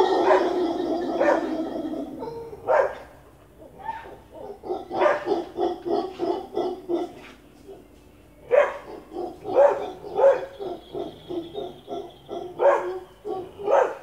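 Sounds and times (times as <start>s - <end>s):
dog barking: 0.0s - 7.9s, 8.5s - 14.0s
monkeys grunting calls: 0.0s - 8.0s, 8.6s - 13.9s.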